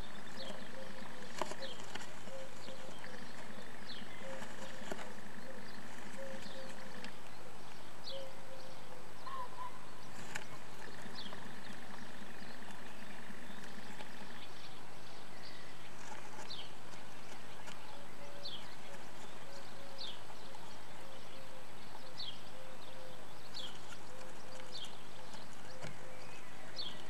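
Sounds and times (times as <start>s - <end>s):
birds shuffling on nest: 0.0s - 8.0s, 9.9s - 22.5s, 23.2s - 27.0s
bird chirps: 0.0s - 27.0s
microphone hiss: 0.0s - 27.0s.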